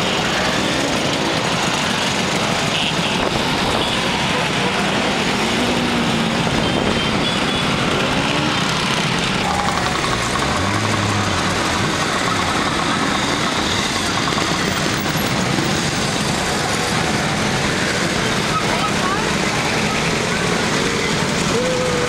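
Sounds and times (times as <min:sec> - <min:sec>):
scooter engines passing: 0:00.0 - 0:22.0.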